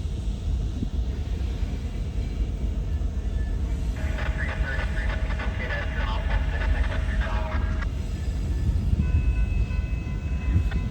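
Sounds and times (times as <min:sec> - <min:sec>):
diesel freight train rumbling: 0:00.0 - 0:10.9.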